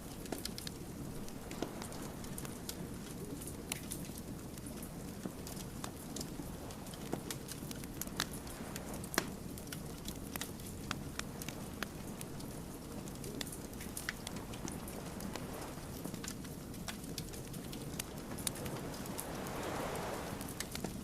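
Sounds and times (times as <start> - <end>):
wood fire crackling and popping: 0.0 - 21.0
low rush of flame: 0.1 - 21.0.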